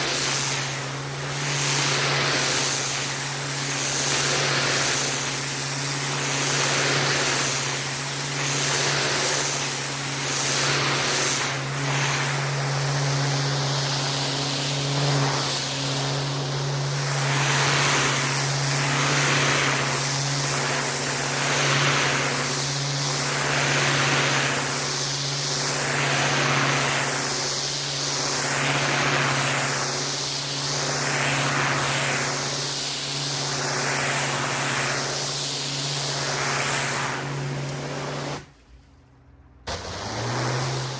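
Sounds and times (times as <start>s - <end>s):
pressure washer spray hissing: 0.0s - 38.5s, 39.7s - 40.9s
pressure washer motor humming: 0.0s - 38.8s, 39.6s - 40.9s.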